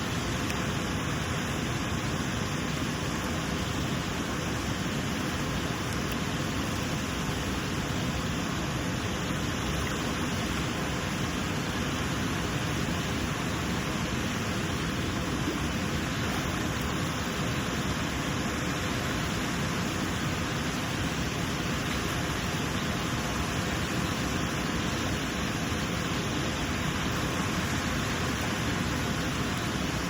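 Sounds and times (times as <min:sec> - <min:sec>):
waterfall roar: 0:00.0 - 0:30.0.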